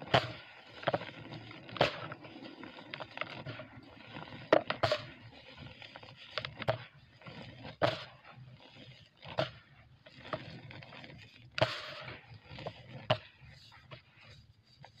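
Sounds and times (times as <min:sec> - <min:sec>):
cement lumps crunching: 0:00.0 - 0:15.0.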